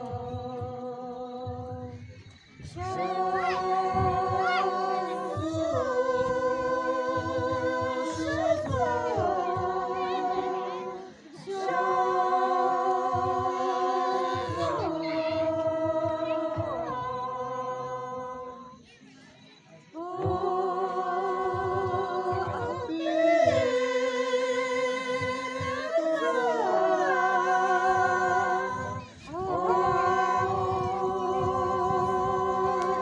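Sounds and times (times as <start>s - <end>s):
group singing unaccompanied: 0.0s - 18.9s, 19.8s - 33.0s.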